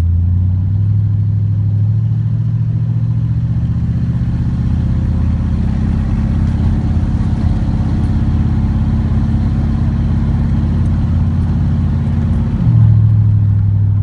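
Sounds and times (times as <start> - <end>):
car engine running: 0.0 - 14.0
road noise: 0.0 - 14.0.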